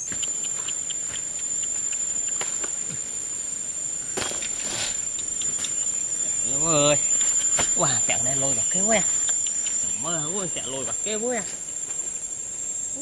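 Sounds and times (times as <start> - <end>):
insect high-pitched drone: 0.0 - 13.0.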